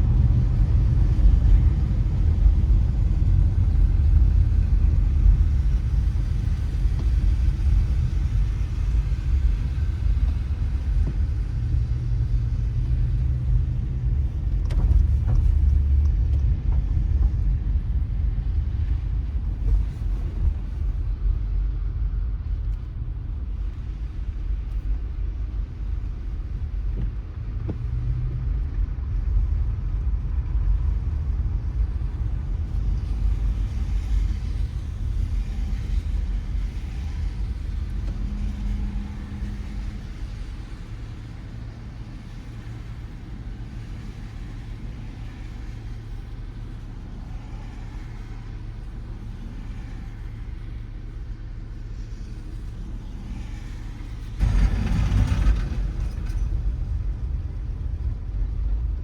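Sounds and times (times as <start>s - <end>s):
car road rumble with tyre hiss: 0.0s - 59.0s.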